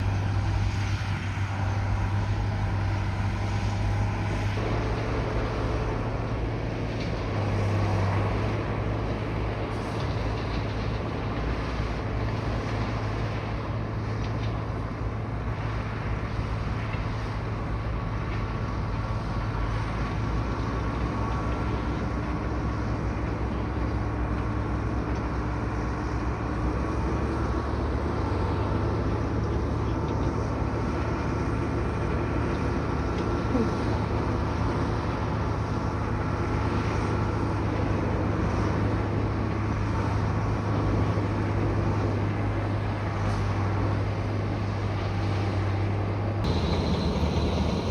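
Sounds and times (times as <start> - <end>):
bulldozer diesel engine droning: 0.0 - 47.9.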